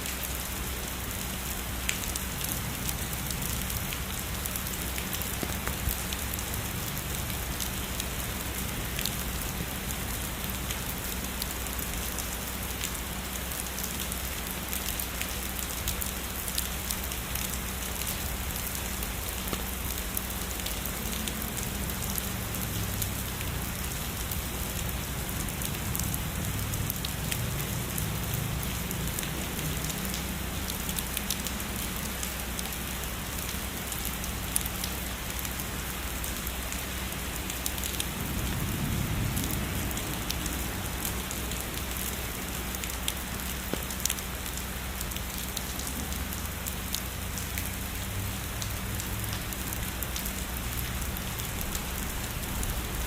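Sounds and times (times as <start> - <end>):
heavy rain falling: 0.0 - 53.0
raindrops ticking nearby: 0.0 - 53.0.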